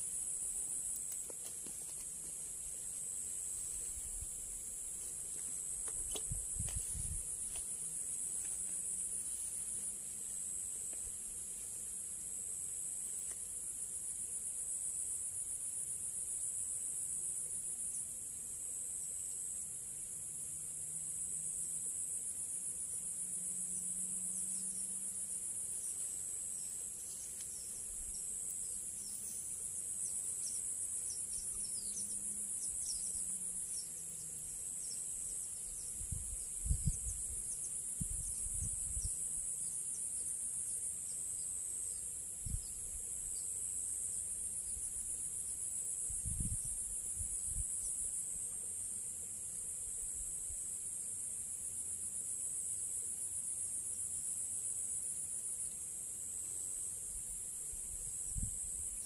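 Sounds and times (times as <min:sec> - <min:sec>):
high-pitched insect chorus: 0:00.0 - 0:11.3, 0:12.3 - 0:59.0.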